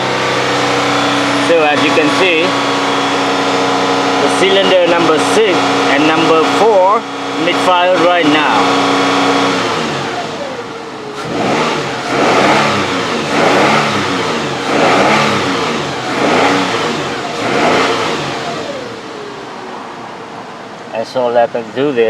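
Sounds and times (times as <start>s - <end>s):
engine revving with misfire: 0.0s - 19.7s.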